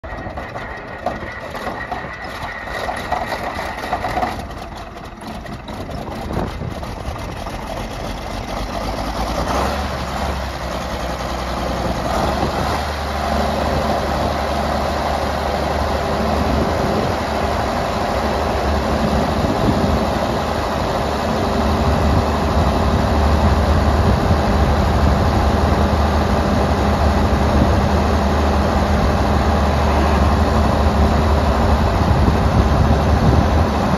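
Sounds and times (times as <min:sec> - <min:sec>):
diesel tractor engine starting and running: 0:00.0 - 0:33.9.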